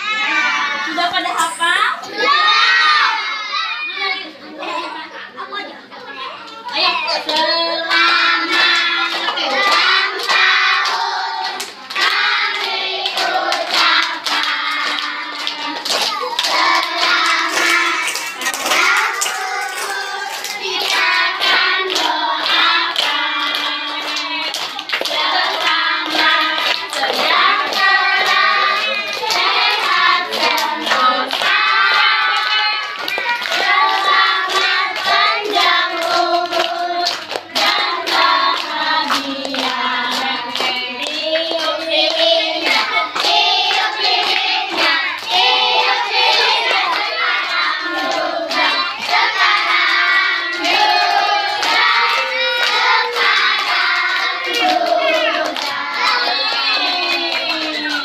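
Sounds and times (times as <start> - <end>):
children singing: 2.0 - 4.1, 7.0 - 58.0
hands clapping: 6.5 - 58.0.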